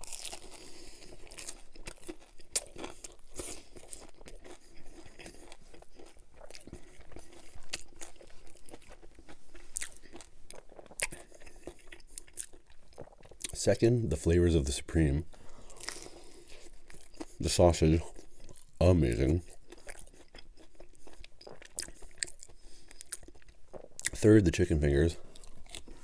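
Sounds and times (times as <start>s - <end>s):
chewing crunchy pizza crust: 0.0s - 13.8s, 14.9s - 26.0s.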